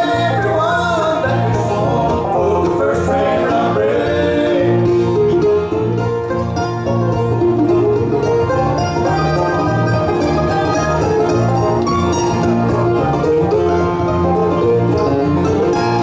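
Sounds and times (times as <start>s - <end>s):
acoustic guitar: 0.0s - 16.0s
banjo: 0.0s - 16.0s
bluegrass band playing: 0.0s - 16.0s
mandolin: 0.0s - 16.0s.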